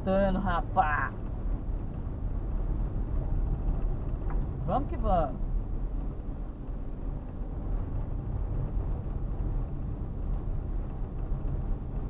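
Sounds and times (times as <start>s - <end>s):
car engine rumble: 0.0s - 12.0s
tyre noise while driving: 0.6s - 12.0s.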